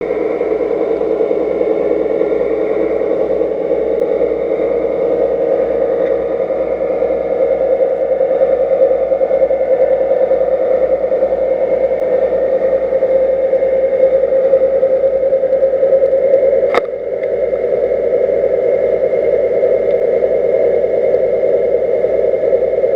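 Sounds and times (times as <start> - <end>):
engine drone with flutter: 0.0 - 22.9.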